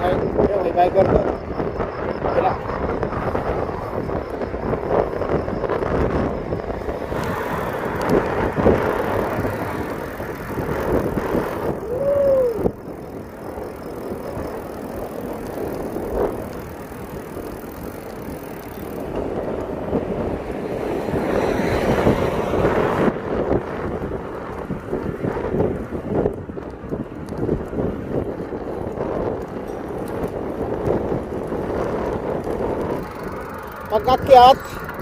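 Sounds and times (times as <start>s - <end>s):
bike rolling noise: 0.0s - 35.0s
wind on microphone: 0.0s - 35.0s.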